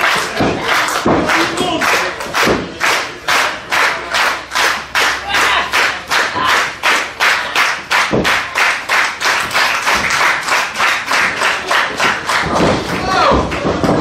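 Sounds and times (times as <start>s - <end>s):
crowd clapping in unison: 0.0s - 14.0s.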